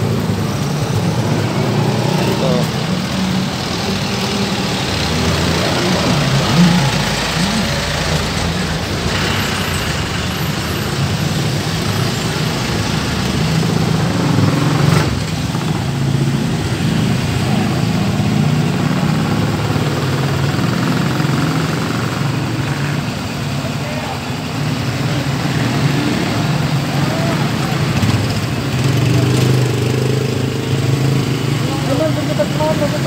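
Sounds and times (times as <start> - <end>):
small truck engine running: 0.0 - 30.1
street noise: 0.0 - 33.0.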